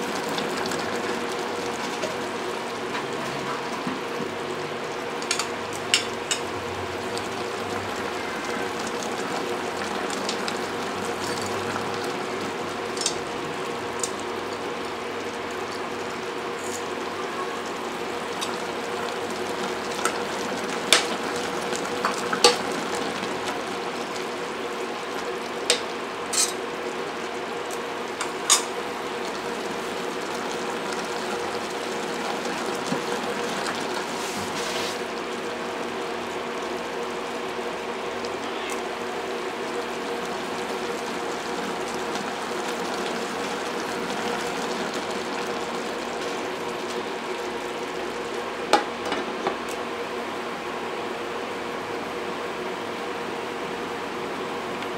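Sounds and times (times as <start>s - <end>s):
sauce bubbling in a pot: 0.0s - 54.9s.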